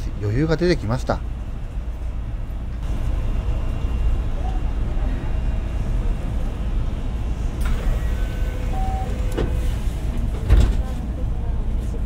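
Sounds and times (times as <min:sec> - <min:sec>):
train cabin low rumble: 0:00.0 - 0:12.0.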